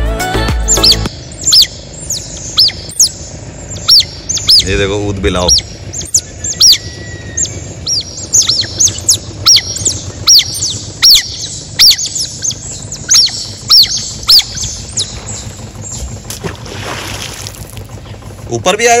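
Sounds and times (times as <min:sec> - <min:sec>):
bird squawking: 0:00.6 - 0:16.5.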